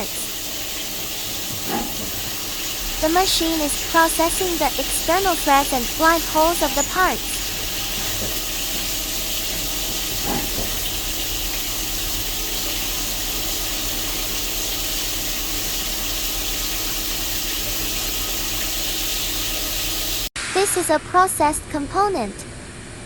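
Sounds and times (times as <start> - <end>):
coolant hissing and splashing: 0.0 - 20.3
low machine hum: 0.0 - 20.3.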